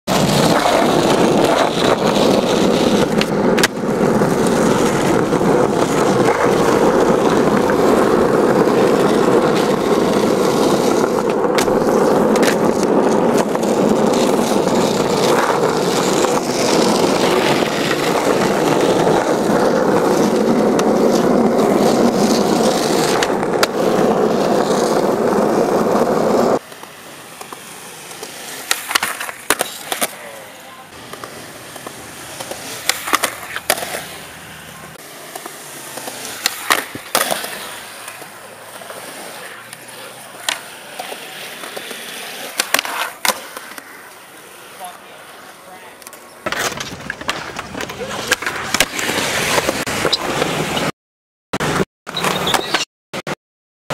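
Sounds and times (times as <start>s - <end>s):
skateboard clacks: 0.1s - 34.2s, 34.9s - 50.9s
skateboard wheels rolling on asphalt: 0.1s - 50.9s, 51.6s - 53.4s.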